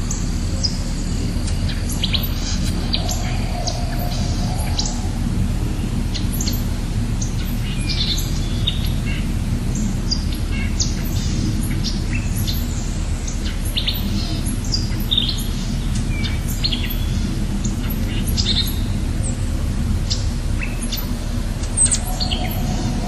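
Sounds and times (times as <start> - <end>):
songbirds chirping: 0.0 - 23.0
steady low rushing noise: 0.0 - 23.0.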